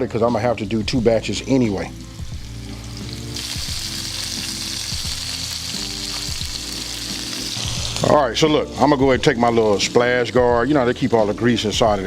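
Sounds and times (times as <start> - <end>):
meat sizzling in a frying pan: 1.1 - 12.0.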